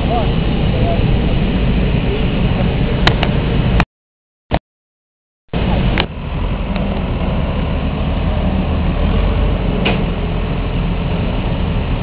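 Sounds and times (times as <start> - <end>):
low engine rumble: 0.0 - 3.8, 5.6 - 12.0.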